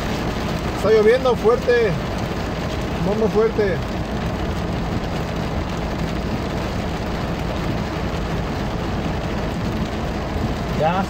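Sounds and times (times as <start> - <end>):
car engine humming: 0.0 - 11.0
heavy rain on car roof: 0.0 - 11.0.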